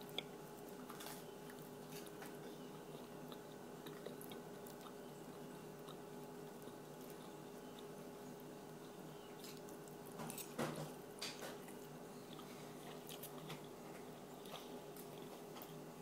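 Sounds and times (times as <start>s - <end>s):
child chewing and mouth smacks: 0.0s - 16.0s
steady low hum: 0.0s - 16.0s.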